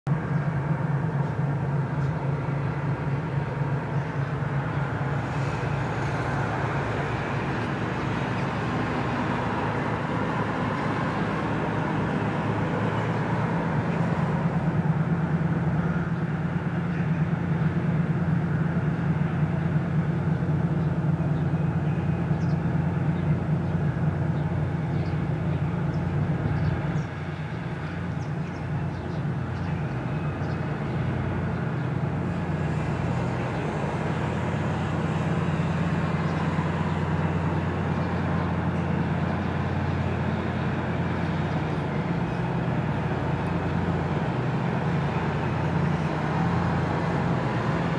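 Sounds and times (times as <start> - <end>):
diesel locomotive engine droning: 0.0 - 47.9.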